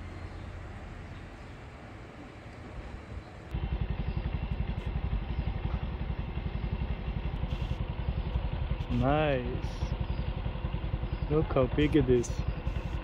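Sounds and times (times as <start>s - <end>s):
engine idling: 0.0s - 13.0s
steady outdoor hum: 0.0s - 13.0s.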